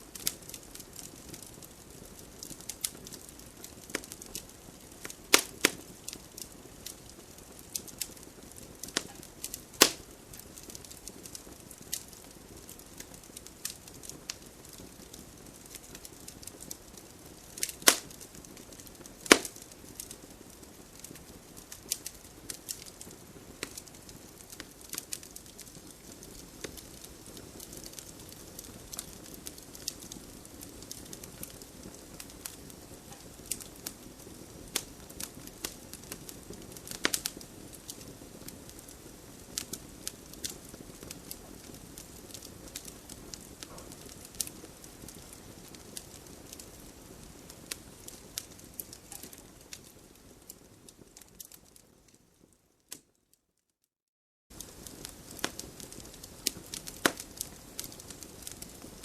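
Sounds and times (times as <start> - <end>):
fire hiss: 0.0 - 51.3, 54.6 - 59.0
campfire wood crackling: 0.0 - 53.2, 54.5 - 59.0
fire popping: 0.0 - 53.2, 54.5 - 59.0.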